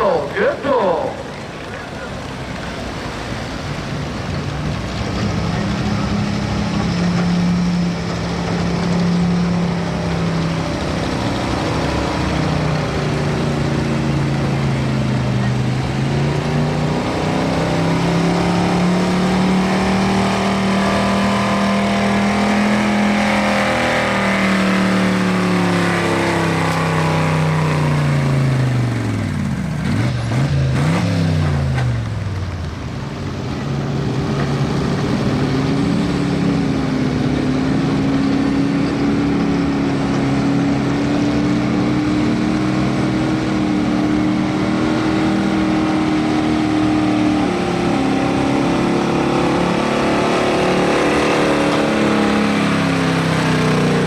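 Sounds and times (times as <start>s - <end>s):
truck engines racing: 0.0s - 54.0s.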